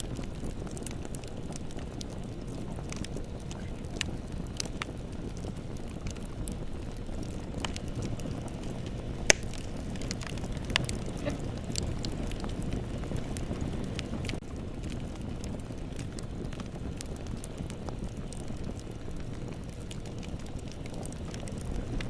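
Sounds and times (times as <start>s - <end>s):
bonfire rumble: 0.0s - 22.0s
burning wood crackles and pops: 0.0s - 22.0s.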